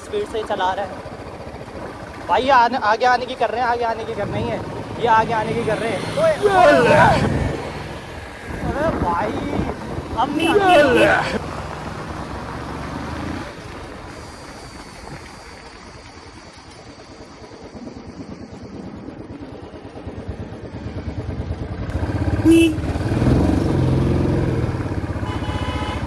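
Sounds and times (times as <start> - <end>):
motorcycle engine and exhaust: 0.0 - 26.0.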